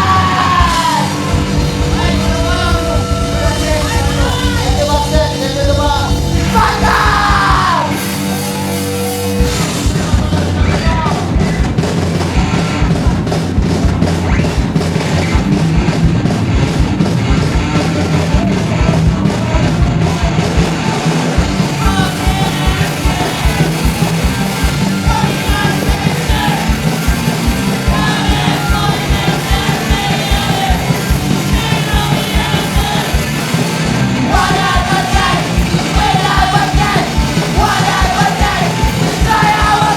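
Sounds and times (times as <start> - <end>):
shouted vocals: 0.0 - 11.6, 18.0 - 39.9
punk band playing live: 0.0 - 39.9.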